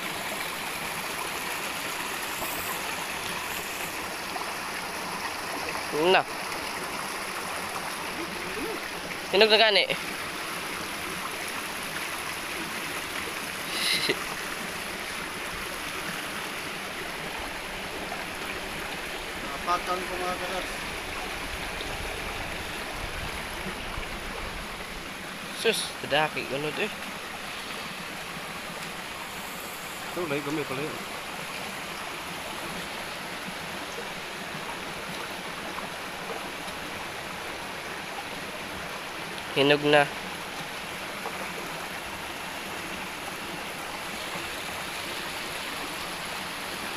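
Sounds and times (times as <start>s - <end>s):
mountain stream rushing over boulders: 0.0s - 46.9s.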